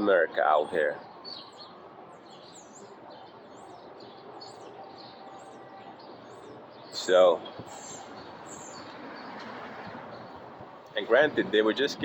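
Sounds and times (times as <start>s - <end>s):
small songbird chirping: 0.0s - 12.0s
steady outdoor hiss: 0.0s - 12.0s.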